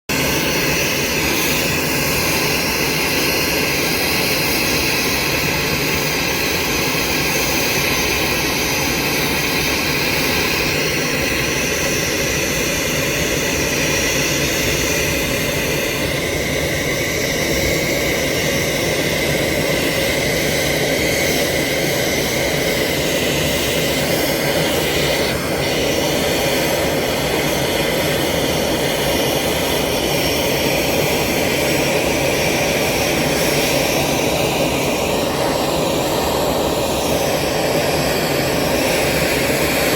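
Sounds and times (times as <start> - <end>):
high engine whine: 0.1 - 39.9
jet engines rushing: 0.1 - 39.9.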